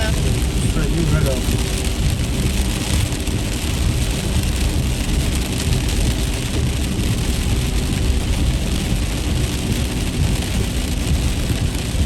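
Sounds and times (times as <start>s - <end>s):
rain hissing on car: 0.0s - 12.0s
road and tyre rumble: 0.0s - 12.0s.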